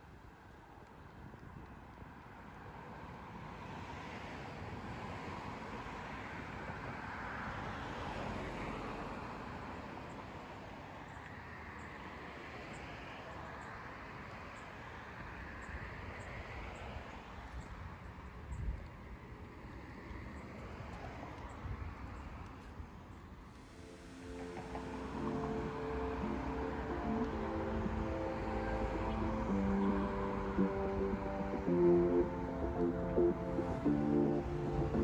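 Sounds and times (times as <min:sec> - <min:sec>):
vehicle rumble and rush: 0:01.2 - 0:12.7, 0:13.3 - 0:35.0.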